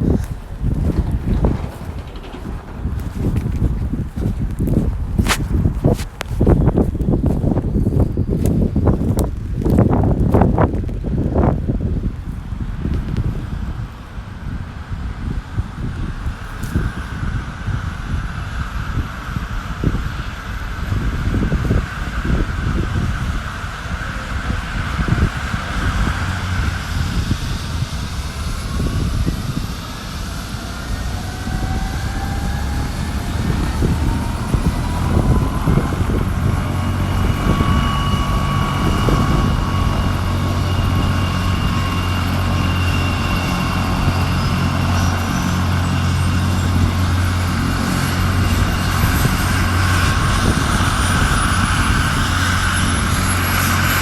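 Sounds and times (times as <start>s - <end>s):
helicopter turbine whining: 0.0s - 54.0s
low rotor drone: 0.0s - 54.0s.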